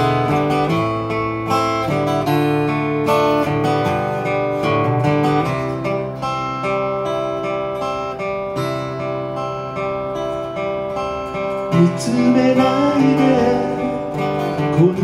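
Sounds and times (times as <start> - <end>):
acoustic guitar arpeggios: 0.0 - 15.0.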